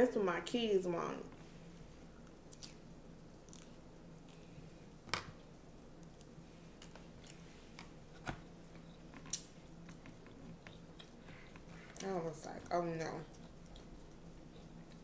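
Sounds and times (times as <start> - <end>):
soft chewing: 1.4 - 15.0.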